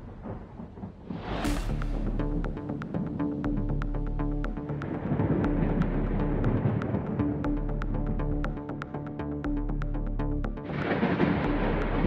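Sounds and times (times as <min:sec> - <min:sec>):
background music with sustained bass: 0:00.0 - 0:12.0.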